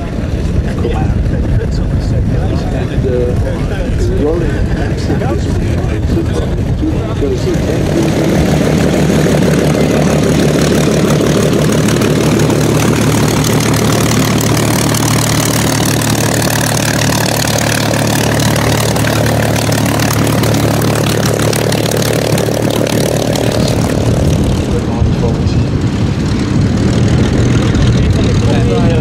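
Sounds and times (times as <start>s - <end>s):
piston aircraft engine idling: 0.0s - 29.0s.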